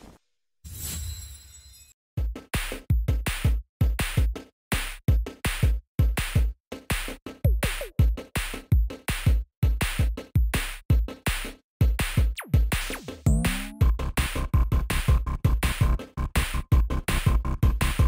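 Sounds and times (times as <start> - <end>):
electronic drum-machine beat: 2.2 - 18.0.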